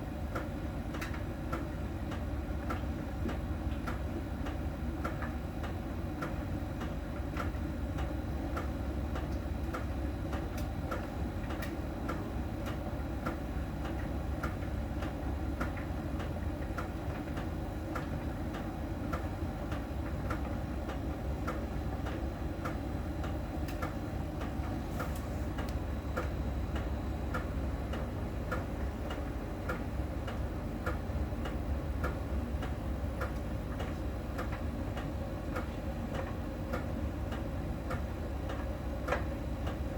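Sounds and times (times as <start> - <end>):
tumble dryer drum hum: 0.0 - 39.9.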